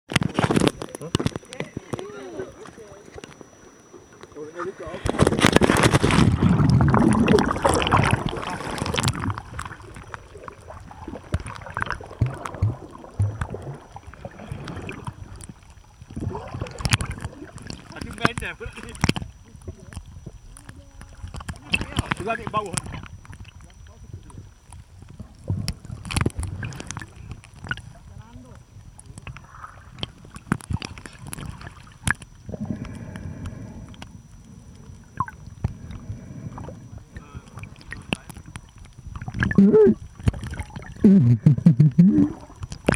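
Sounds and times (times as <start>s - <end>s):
muffled underwater sound: 0.1s - 42.9s
water splashing: 0.3s - 28.4s, 29.1s - 32.9s, 34.9s - 42.9s
underwater clicks: 5.0s - 28.0s, 28.8s - 42.9s.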